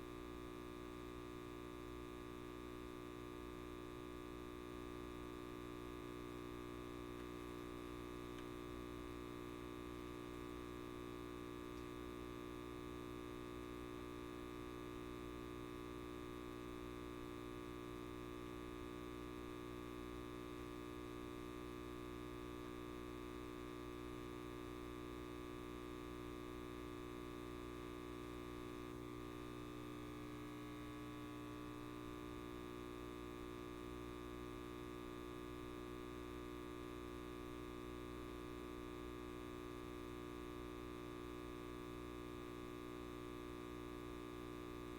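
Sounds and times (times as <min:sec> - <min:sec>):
light bulb mains buzz: 0:00.0 - 0:44.9.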